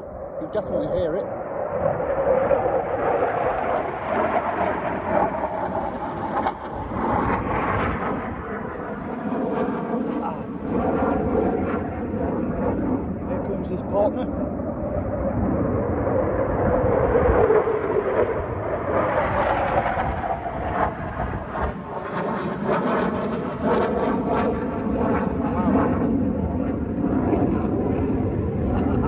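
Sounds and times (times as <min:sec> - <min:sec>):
fighter jet passing overhead: 0:00.0 - 0:29.0.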